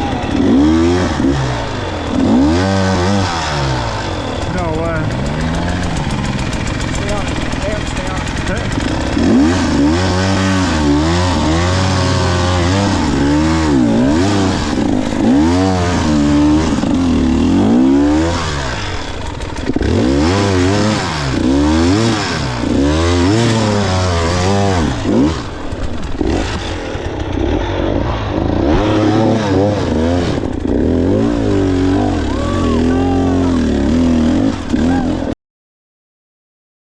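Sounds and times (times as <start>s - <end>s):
dirt bike engine revving: 0.0s - 35.4s.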